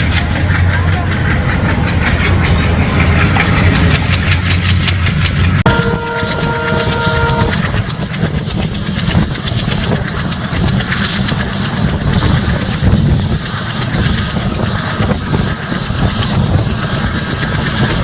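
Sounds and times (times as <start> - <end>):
diesel locomotive engine rumble: 0.0 - 18.0
rushing noise of running train: 0.0 - 18.0.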